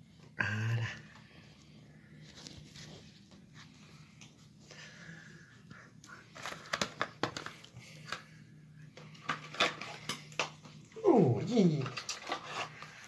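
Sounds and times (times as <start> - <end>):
rustling and clicking handling noise: 1.1 - 4.7, 5.6 - 13.0.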